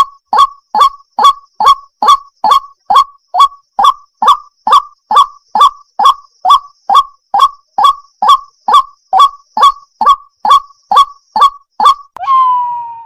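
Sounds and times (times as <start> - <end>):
waterhen croaking: 0.0 - 12.1.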